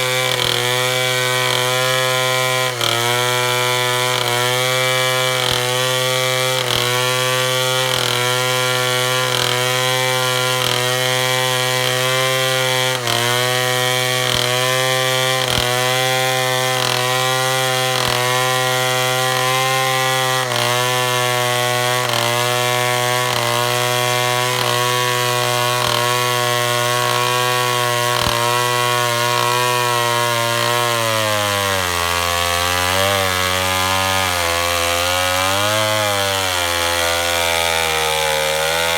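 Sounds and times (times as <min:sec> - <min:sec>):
chainsaw cutting through wood: 0:00.0 - 0:38.9.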